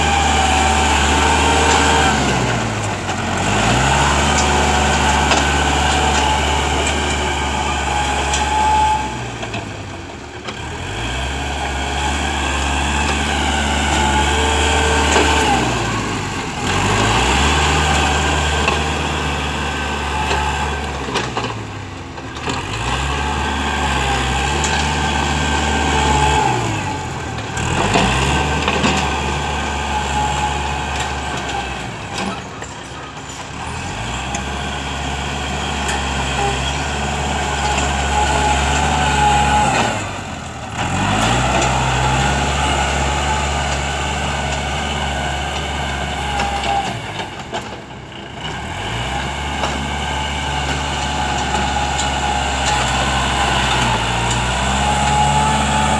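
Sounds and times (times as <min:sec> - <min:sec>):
dozer blade pushing soil: 0:00.0 - 0:55.9
tractor diesel engine running: 0:00.0 - 0:55.9.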